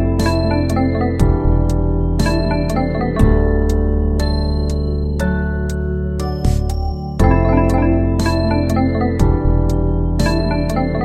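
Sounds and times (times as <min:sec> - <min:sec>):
electric piano chords: 0:00.0 - 0:11.0
steady bass: 0:00.0 - 0:11.0.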